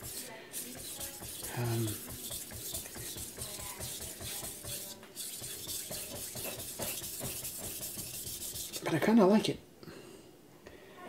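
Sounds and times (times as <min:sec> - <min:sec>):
knife scraping on whetstone: 0:00.0 - 0:09.0.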